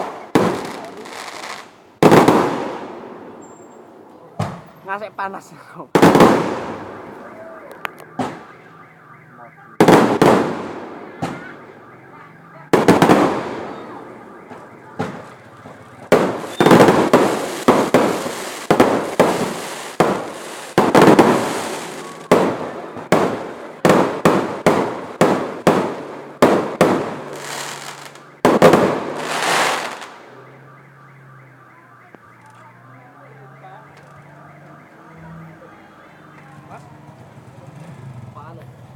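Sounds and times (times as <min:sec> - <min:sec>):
fireworks bangs: 0:00.0 - 0:31.4.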